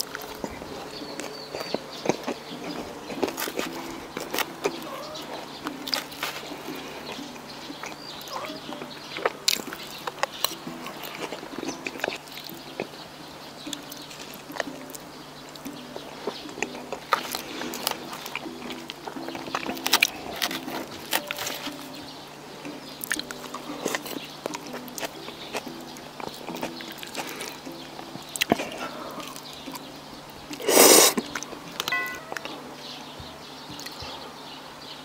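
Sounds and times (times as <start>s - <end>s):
wet chewing and mouth smacks: 0.0s - 32.6s, 33.7s - 34.2s.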